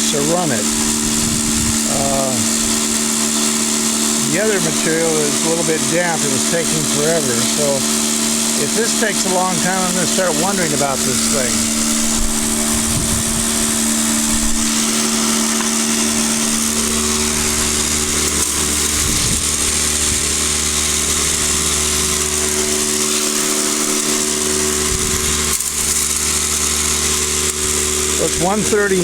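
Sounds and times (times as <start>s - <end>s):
deeper hum: 0.0s - 29.0s
electric motor hum with hiss: 0.0s - 29.0s.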